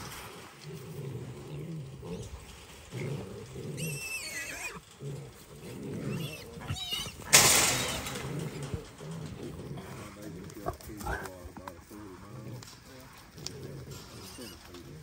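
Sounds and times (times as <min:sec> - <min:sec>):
hogs grunting: 0:00.0 - 0:15.0.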